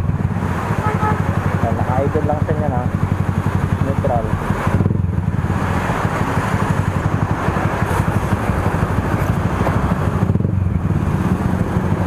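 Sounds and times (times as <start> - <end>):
motorcycle idling: 0.0 - 12.0.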